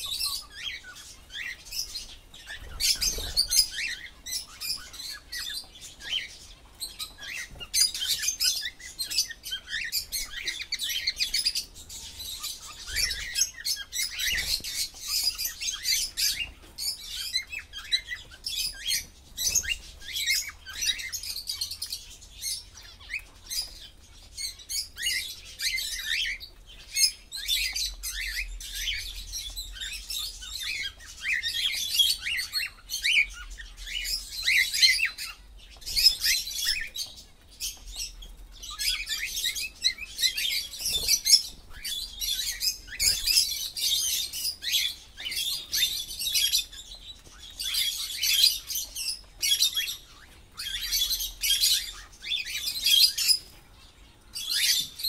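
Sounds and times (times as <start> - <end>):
cockatiels chirping and whistling: 0.0 - 55.0.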